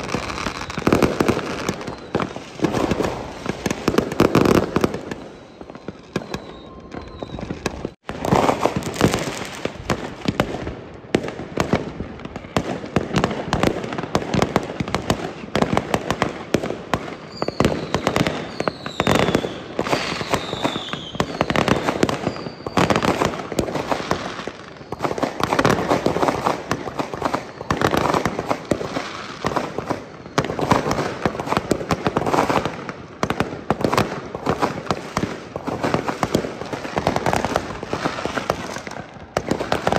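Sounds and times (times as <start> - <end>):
falling firework whistles: 0.0 - 10.4, 17.0 - 39.9
fireworks bangs and crackling: 0.0 - 39.9.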